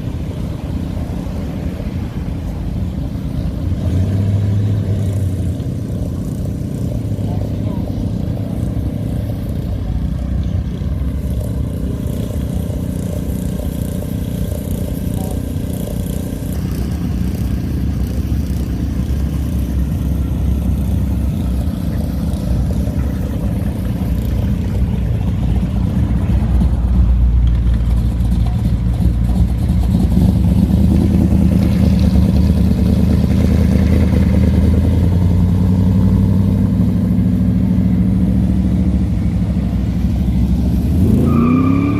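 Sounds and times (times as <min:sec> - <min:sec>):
car engines rumbling: 0:00.0 - 0:41.9.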